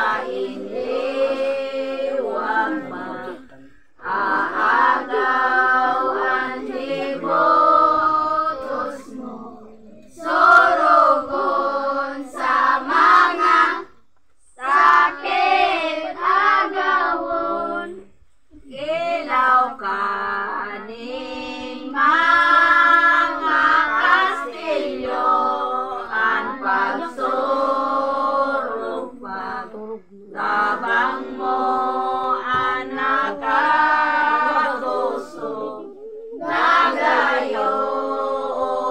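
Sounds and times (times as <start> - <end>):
group singing without instruments: 0.0 - 38.9.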